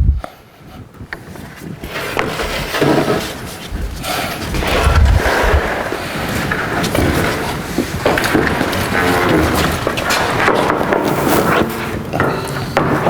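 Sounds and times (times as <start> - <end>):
board scraping on steel: 1.8 - 13.0.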